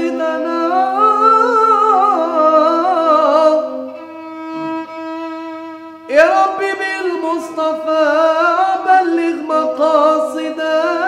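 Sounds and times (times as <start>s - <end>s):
man singing ornamented line: 0.0s - 4.3s, 6.0s - 11.0s
bowed violin: 0.0s - 11.0s.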